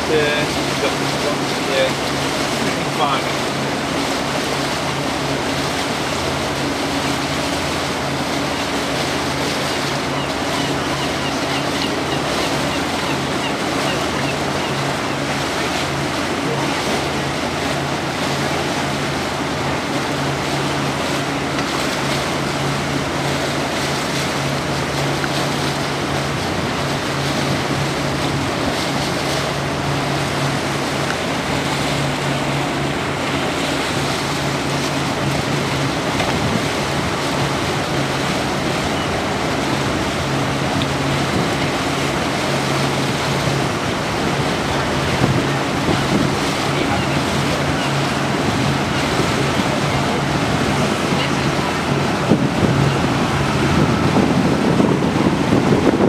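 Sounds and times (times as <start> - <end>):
boat engine humming: 0.0 - 56.0
water rushing: 0.0 - 56.0
wind: 0.0 - 56.0.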